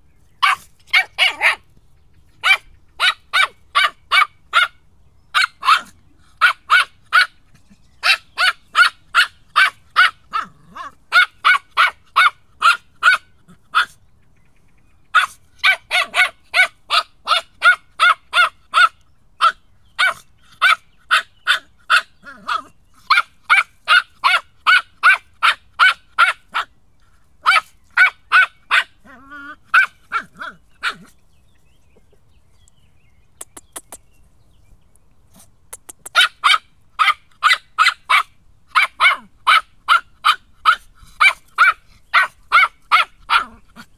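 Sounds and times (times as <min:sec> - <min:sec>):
puppy barking high-pitched: 0:00.4 - 0:01.6, 0:02.4 - 0:07.4, 0:08.0 - 0:14.0, 0:15.1 - 0:26.8, 0:27.4 - 0:31.1, 0:36.0 - 0:43.9.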